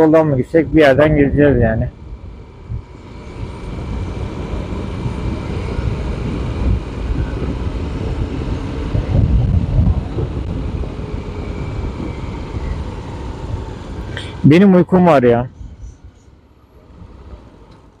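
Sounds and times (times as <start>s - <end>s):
wind and road rumble: 0.0s - 18.0s.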